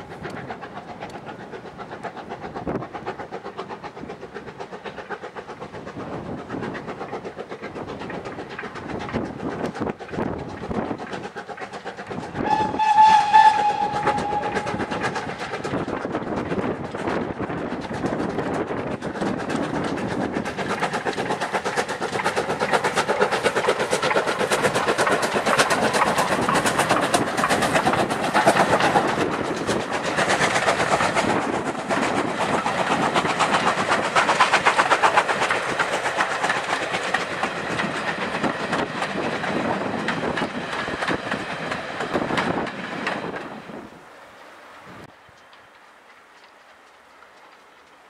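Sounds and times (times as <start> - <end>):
steam locomotive passing: 0.0 - 48.0
wheels clicking over rail joints: 0.0 - 48.0.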